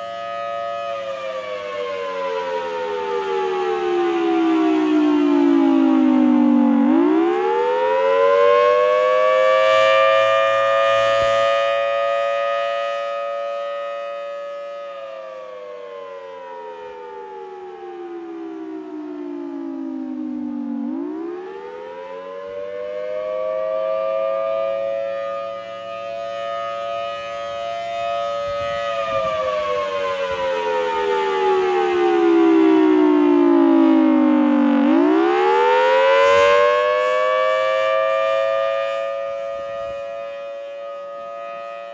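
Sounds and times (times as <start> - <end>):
warning siren wailing: 0.0 - 41.9.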